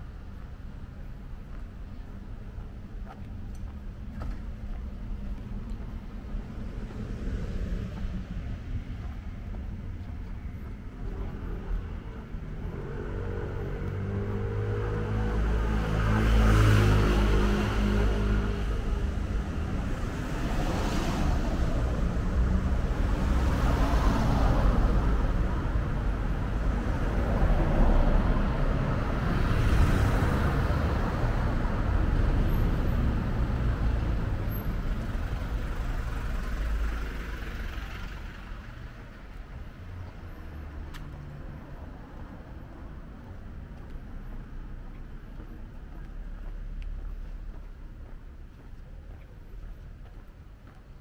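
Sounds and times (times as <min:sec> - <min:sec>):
vehicle engines passing: 0:00.0 - 0:51.0.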